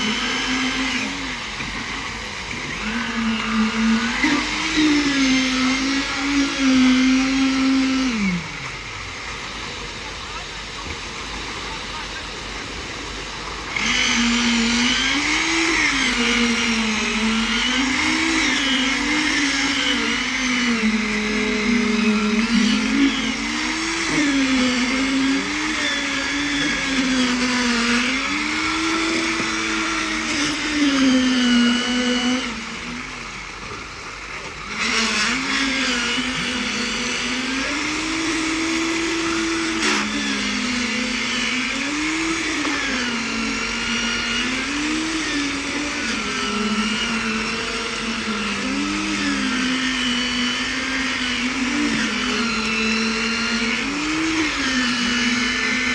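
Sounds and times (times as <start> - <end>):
concrete vibrator motor whining: 0.0 - 55.9.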